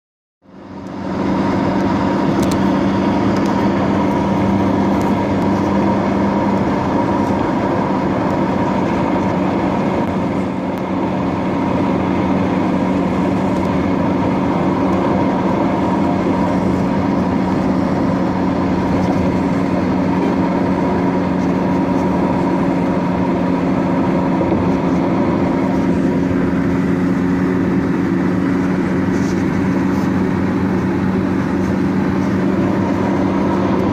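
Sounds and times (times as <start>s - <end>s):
vehicle engine and tyre drone: 0.4s - 33.9s.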